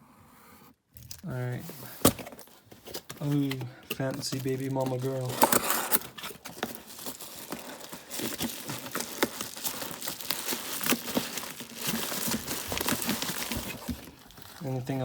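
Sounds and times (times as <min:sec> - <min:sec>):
packaging crinkling and rustling: 0:01.0 - 0:15.0.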